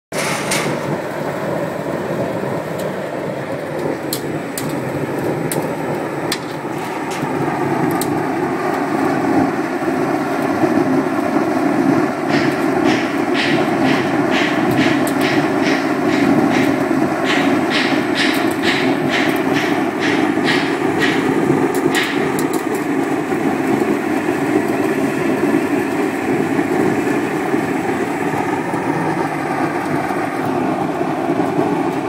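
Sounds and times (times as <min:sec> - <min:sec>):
burner flame jet rushing: 0:00.1 - 0:32.0.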